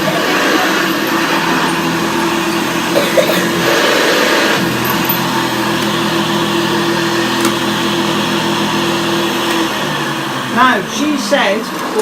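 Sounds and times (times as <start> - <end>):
vacuum cleaner motor humming: 0.0 - 12.0
vacuum beater bar: 0.4 - 12.0.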